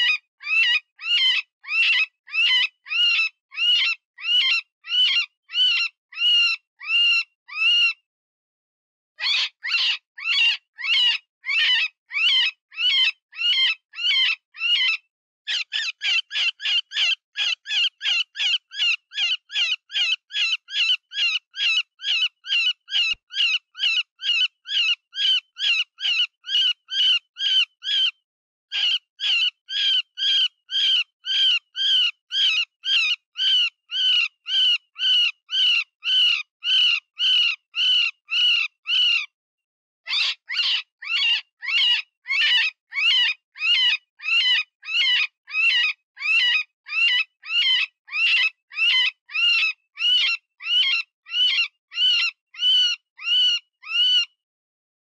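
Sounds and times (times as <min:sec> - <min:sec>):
high-pitched rabbit distress cries: 0:00.0 - 0:08.0, 0:09.2 - 0:39.3, 0:40.1 - 0:54.4.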